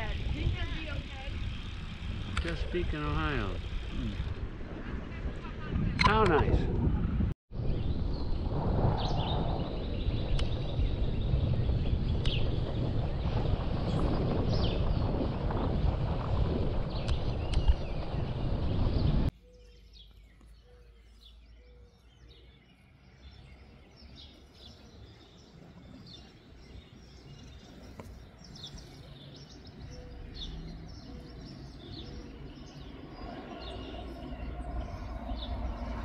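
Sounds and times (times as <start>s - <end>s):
birds chirping: 0.0s - 6.6s, 7.6s - 36.0s
wind noise from moving bicycle: 0.0s - 19.4s, 24.1s - 36.0s.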